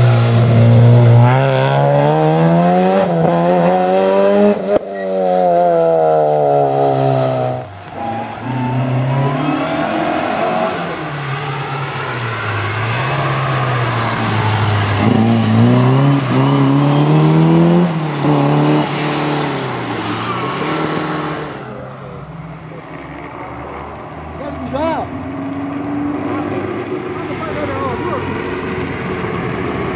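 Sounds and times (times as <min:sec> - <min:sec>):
rally car engine revving: 0:00.0 - 0:29.9.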